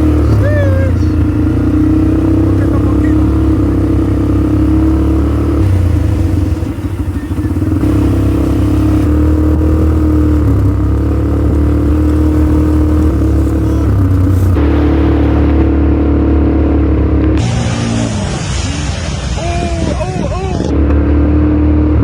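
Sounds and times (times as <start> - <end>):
atv engine running: 0.0 - 18.2, 20.7 - 22.0.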